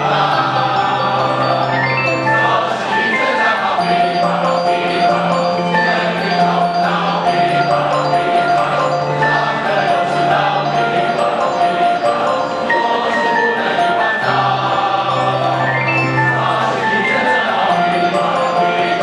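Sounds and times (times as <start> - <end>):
choir singing in unison: 0.0 - 19.0
instrumental accompaniment: 0.0 - 19.0.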